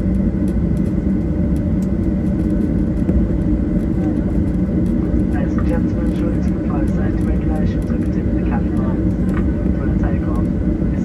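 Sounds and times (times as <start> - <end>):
jet engines droning in cabin: 0.0 - 11.0.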